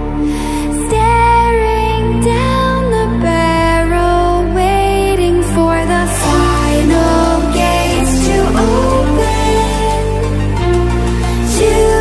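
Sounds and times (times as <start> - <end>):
background music with bass: 0.0 - 12.0.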